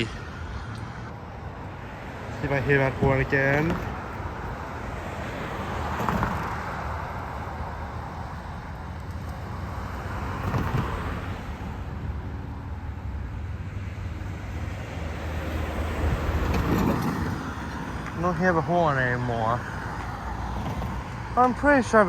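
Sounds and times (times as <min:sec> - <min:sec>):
cars passing: 0:00.0 - 0:22.0
road traffic: 0:00.0 - 0:22.0.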